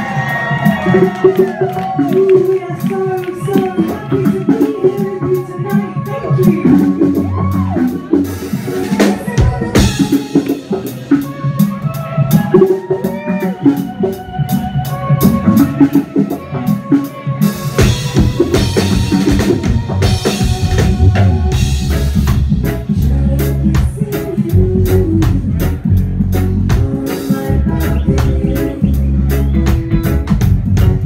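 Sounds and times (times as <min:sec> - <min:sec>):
bass: 0:00.0 - 0:31.0
drum kit beat: 0:00.0 - 0:31.0
reggae band playing: 0:00.0 - 0:31.0.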